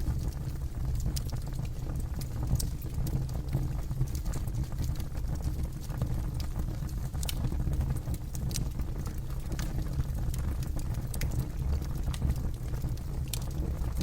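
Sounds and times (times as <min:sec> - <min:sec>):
burning wood crackling and popping: 0:00.0 - 0:14.0
campfire roaring: 0:00.0 - 0:14.0.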